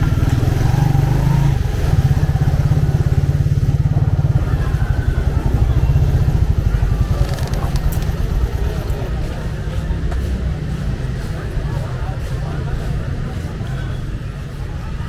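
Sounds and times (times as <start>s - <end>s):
faint street traffic: 0.0s - 15.0s
motorcycle engine running: 0.0s - 15.0s.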